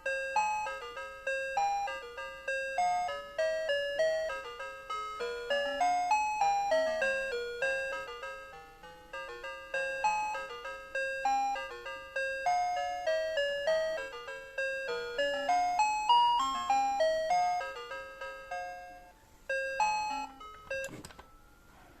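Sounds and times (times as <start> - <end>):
alarm clock chiming melody: 0.0 - 21.7.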